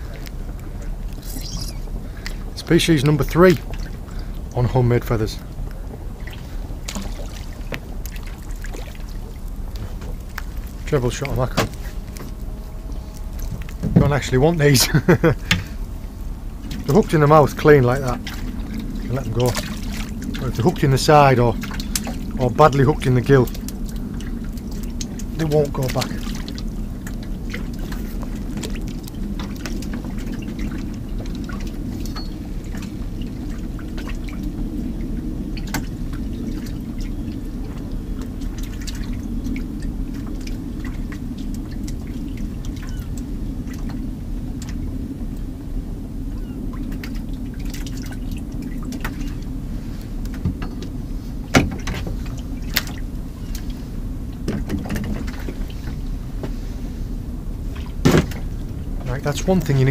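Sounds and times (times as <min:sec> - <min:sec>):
steady low rumble: 0:00.0 - 0:59.9
water lapping against boat hull: 0:00.0 - 0:59.9.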